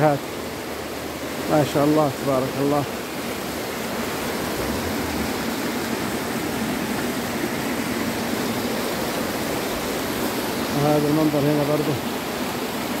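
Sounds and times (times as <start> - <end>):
mountain stream rushing over stones: 0.0 - 13.0.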